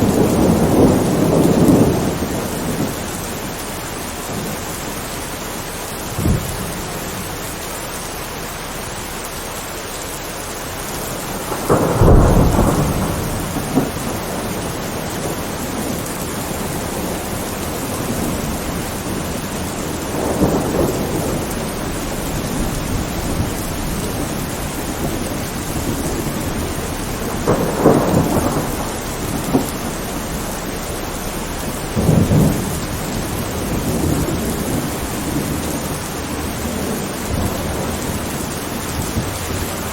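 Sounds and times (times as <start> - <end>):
thunder rumbling: 0.0 - 9.2, 10.2 - 39.9
steady rain falling: 0.0 - 39.9.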